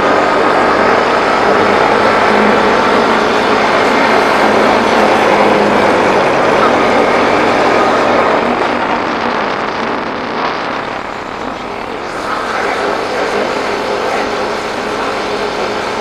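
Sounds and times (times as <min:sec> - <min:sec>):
wind and road noise on microphone: 0:00.0 - 0:16.0.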